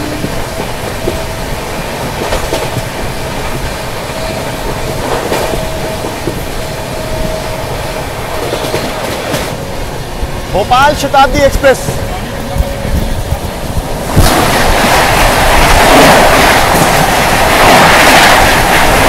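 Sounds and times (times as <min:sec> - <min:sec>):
train rushing past: 0:00.0 - 0:19.0.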